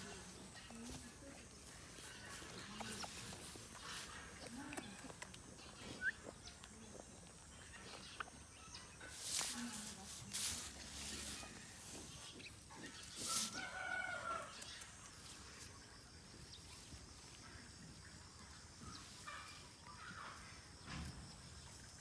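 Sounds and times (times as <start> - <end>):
chickens clucking: 0.0 - 15.6, 17.5 - 21.1.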